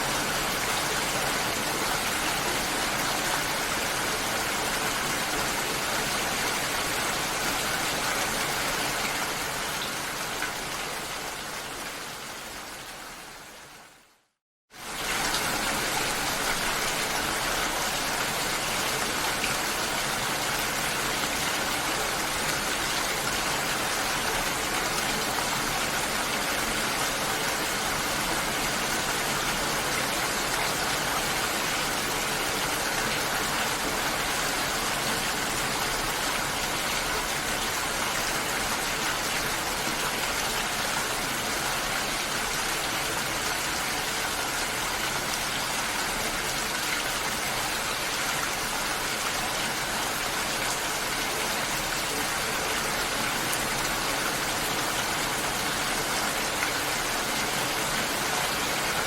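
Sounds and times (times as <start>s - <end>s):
heavy rain falling: 0.0s - 13.7s, 14.8s - 59.0s.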